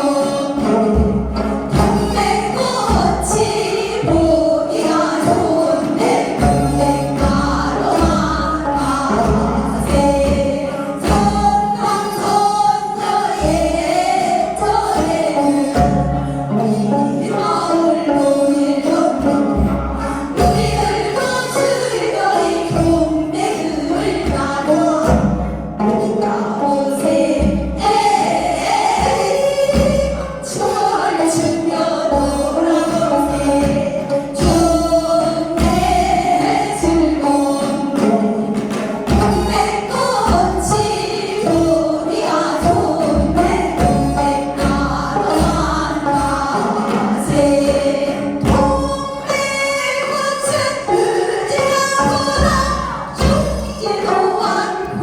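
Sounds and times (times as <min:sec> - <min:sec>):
folk song with accompaniment: 0:00.0 - 0:55.0.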